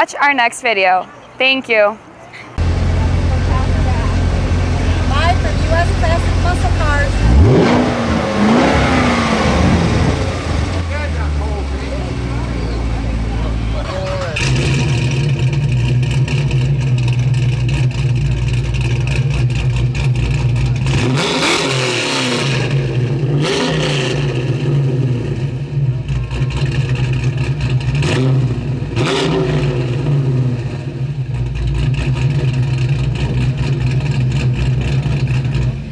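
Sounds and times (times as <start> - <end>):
car engine idling: 2.6 - 35.9
car engine revving: 2.6 - 35.9.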